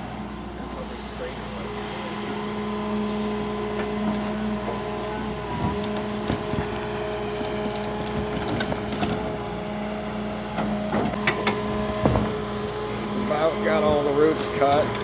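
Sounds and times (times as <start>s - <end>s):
excavator engine drone: 0.0s - 15.0s.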